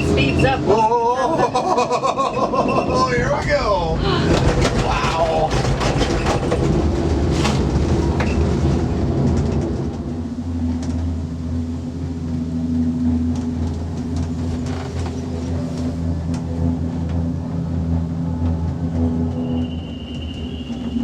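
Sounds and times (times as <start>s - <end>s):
gondola cabin mechanical hum: 0.0s - 21.0s.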